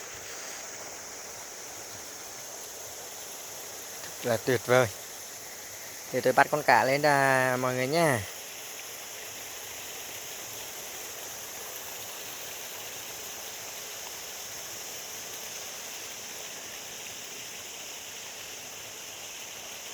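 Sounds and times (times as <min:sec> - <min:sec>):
insect chorus: 0:00.0 - 0:19.9
water rushing through sluice gate: 0:00.0 - 0:19.9.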